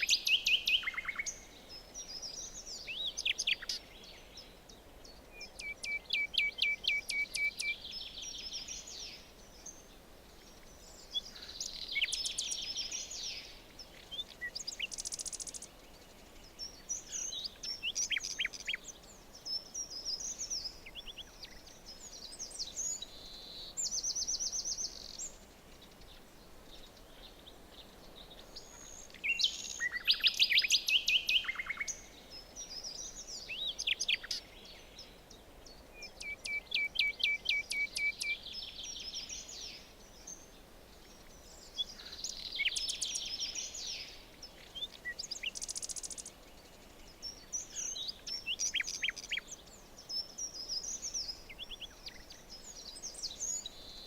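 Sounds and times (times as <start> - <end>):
faint background hiss: 0.0 - 54.0
songbirds singing: 0.0 - 54.0.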